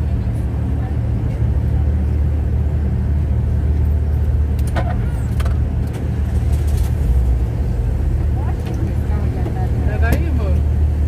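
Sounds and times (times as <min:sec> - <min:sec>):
van engine droning: 0:00.0 - 0:11.0.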